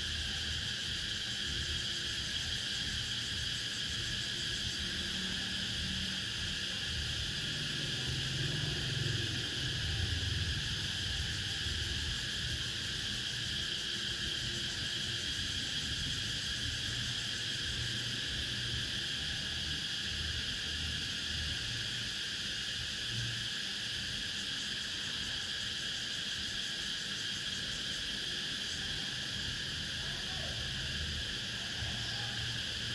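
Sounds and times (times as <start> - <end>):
cicadas buzzing: 0.0 - 32.9.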